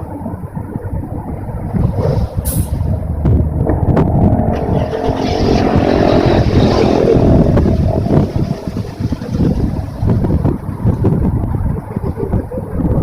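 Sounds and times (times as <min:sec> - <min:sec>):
car wash machine rumble: 0:00.0 - 0:13.0.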